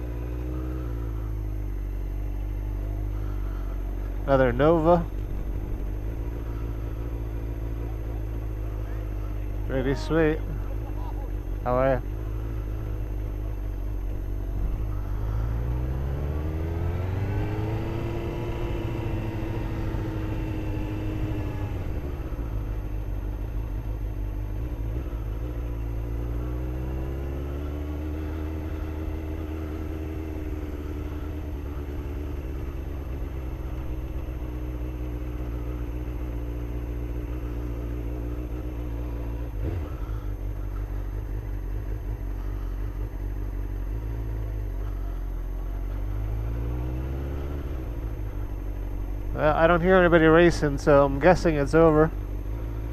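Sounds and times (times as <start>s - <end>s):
engine running at low speed: 0.0s - 52.9s.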